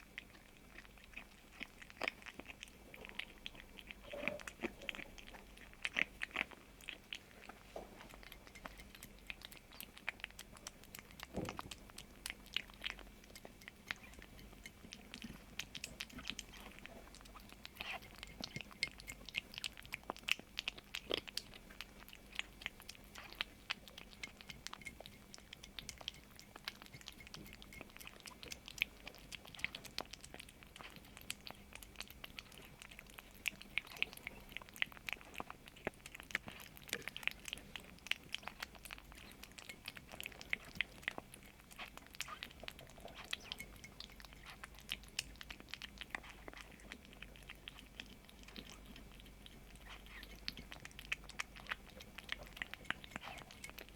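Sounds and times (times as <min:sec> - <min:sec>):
kitten chewing crunchy food: 0:00.0 - 0:53.9.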